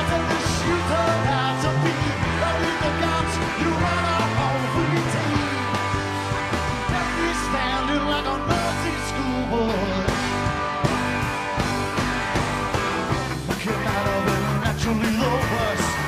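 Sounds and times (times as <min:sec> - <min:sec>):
male lead singer: 0:00.0 - 0:10.8, 0:13.1 - 0:16.0
rock band playing: 0:00.0 - 0:16.0.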